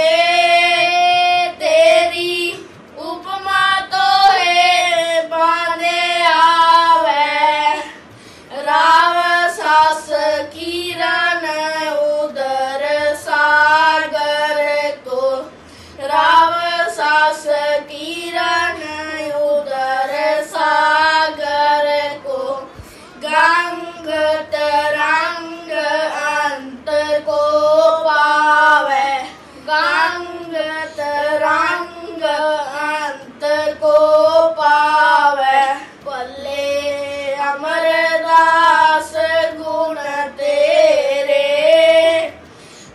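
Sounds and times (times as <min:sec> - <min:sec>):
boys singing: 0:00.0 - 0:42.6.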